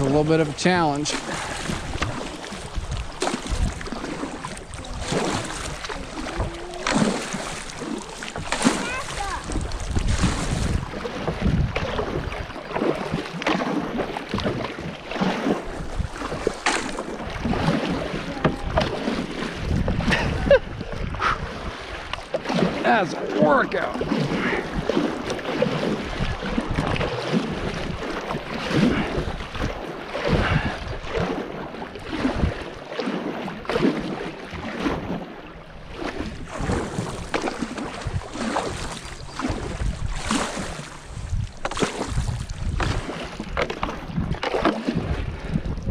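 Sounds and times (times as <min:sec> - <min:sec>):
river water flowing: 0:00.0 - 0:45.0
paddle strokes splashing water: 0:00.0 - 0:45.9
wind buffeting microphone: 0:00.0 - 0:45.9.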